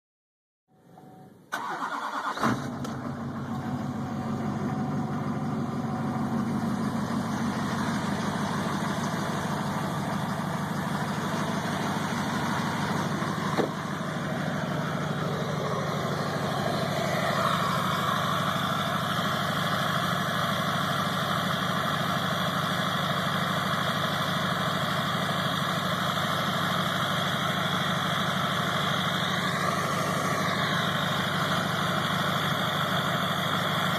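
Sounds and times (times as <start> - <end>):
diesel engine starting and idling: 0.8 - 33.9
high whine over idle: 2.5 - 33.9.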